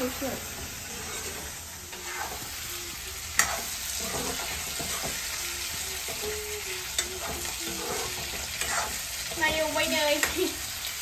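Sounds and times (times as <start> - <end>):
ladle scraping wok: 0.0 - 10.4
food sizzling in hot oil: 0.0 - 11.0.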